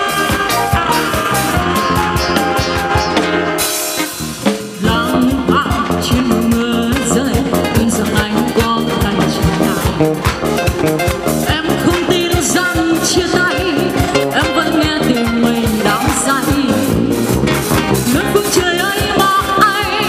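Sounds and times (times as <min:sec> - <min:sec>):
drum kit beat: 0:00.0 - 0:20.0
electric guitar: 0:00.0 - 0:20.0.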